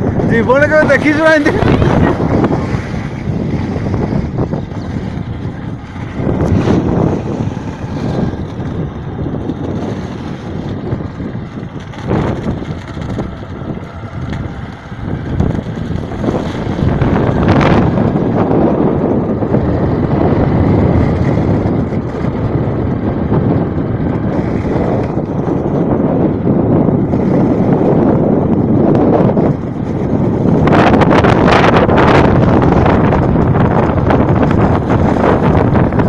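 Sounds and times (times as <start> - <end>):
wind gusting across microphone: 0.0 - 36.0.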